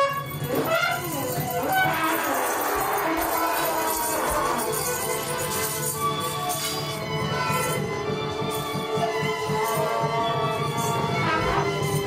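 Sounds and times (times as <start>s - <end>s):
tuba trumpets and fiddles playing: 0.0s - 12.0s.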